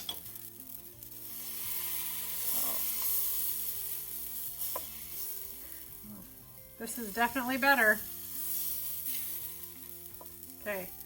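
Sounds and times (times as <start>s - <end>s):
batter sizzling on griddle: 0.0s - 11.0s.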